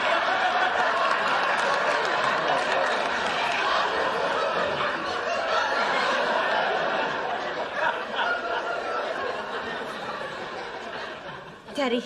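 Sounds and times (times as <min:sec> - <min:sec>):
studio audience laughing: 0:00.0 - 0:12.0.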